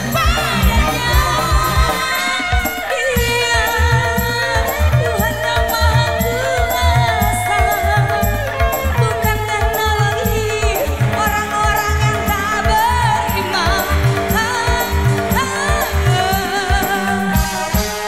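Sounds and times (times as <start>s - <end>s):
band playing through loudspeakers: 0.0s - 18.0s
drum and bass beat: 0.0s - 18.0s
woman singing: 0.0s - 18.0s.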